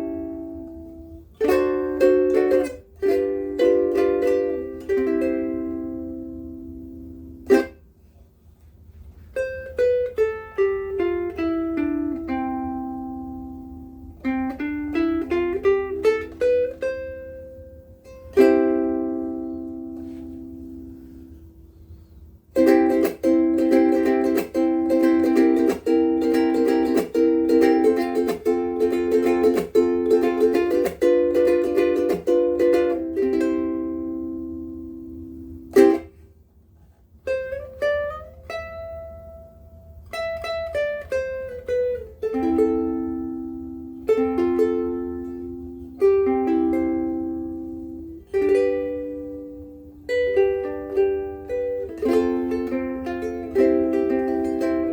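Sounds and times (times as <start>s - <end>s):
ukulele strummed and picked: 0.0s - 21.6s, 22.5s - 54.9s.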